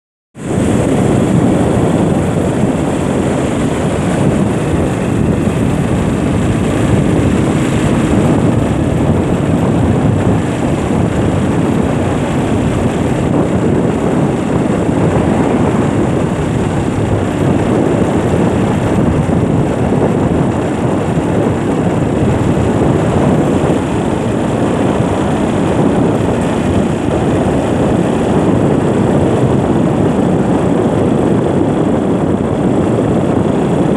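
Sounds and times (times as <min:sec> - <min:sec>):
vehicle road and wind rumble: 0:00.4 - 0:33.9.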